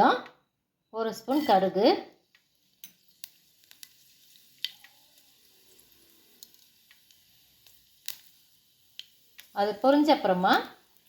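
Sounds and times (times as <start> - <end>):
seeds sizzling in hot oil: 1.0 - 11.0
seeds popping in oil: 1.3 - 11.0.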